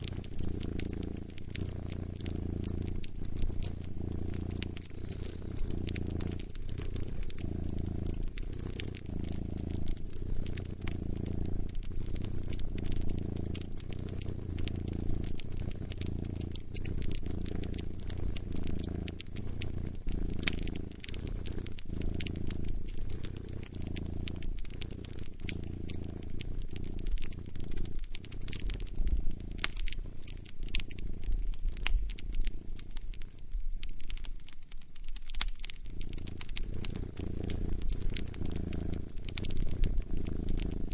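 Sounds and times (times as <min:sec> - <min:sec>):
cat purring: 0:00.0 - 0:40.9
wood fire crackling and popping: 0:00.0 - 0:40.9.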